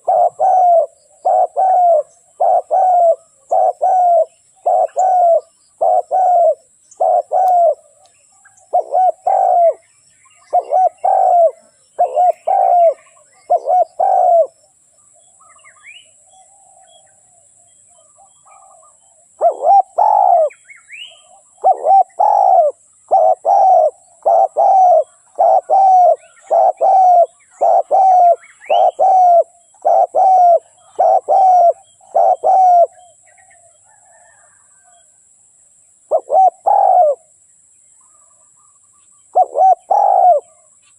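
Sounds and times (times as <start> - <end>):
doves cooing: 0.0 - 8.0, 8.6 - 14.6, 18.0 - 35.0, 36.1 - 37.3, 38.1 - 40.8
small birds chirping: 0.0 - 35.1, 35.8 - 40.9.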